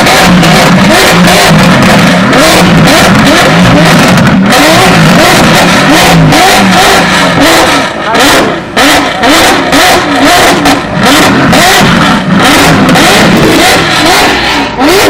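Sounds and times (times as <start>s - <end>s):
sports cars revving: 0.0s - 15.0s.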